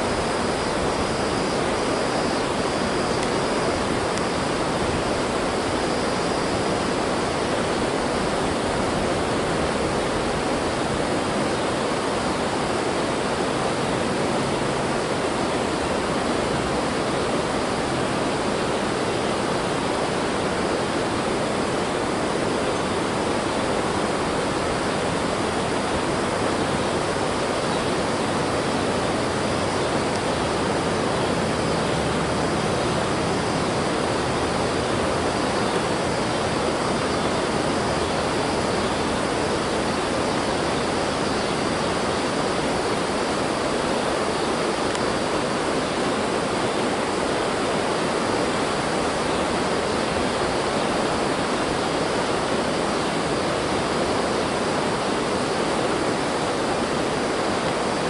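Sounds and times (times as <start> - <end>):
steady rushing hiss: 0.0 - 58.0.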